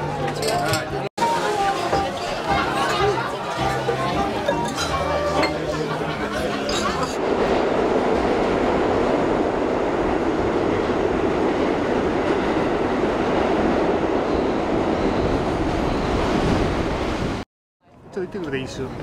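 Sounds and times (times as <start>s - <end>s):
subway train running: 1.2s - 17.4s.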